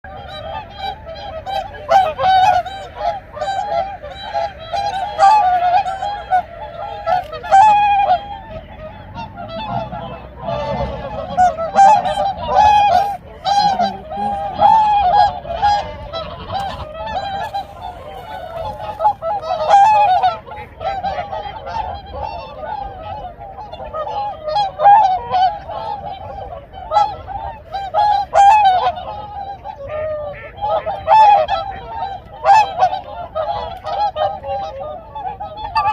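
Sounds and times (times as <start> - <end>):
swans honking: 0.0 - 35.9.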